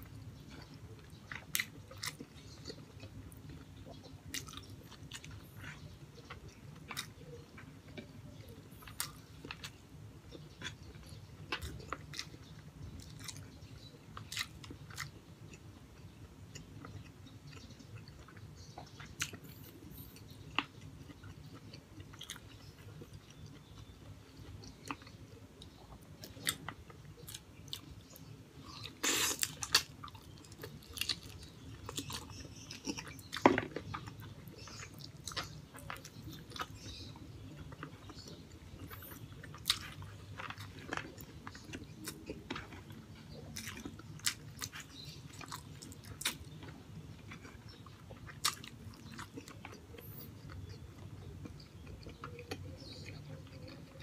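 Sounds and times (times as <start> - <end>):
person chewing: 0.0 - 54.0.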